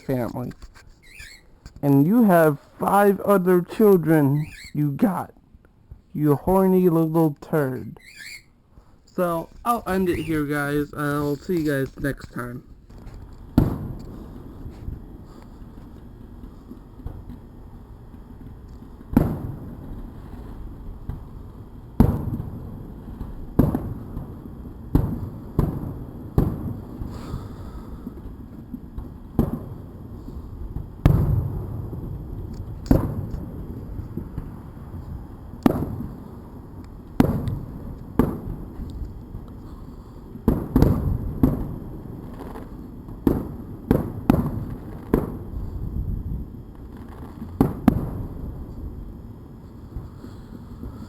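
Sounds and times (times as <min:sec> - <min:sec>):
fireworks bangs: 0:06.2 - 0:51.0.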